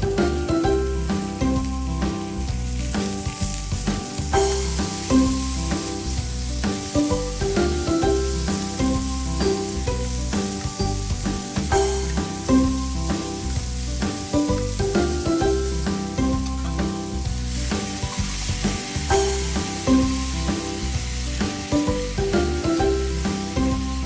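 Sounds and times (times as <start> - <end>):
background music with bass line: 0.0 - 24.0
food sizzling in a frying pan: 0.0 - 24.0.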